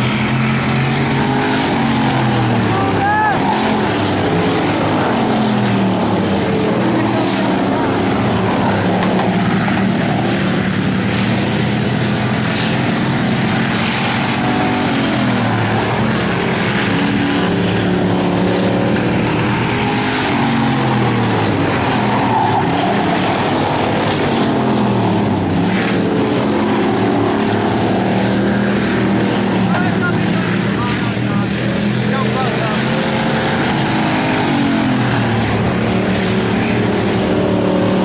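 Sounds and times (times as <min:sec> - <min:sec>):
race car engines accelerating: 0:00.0 - 0:38.0.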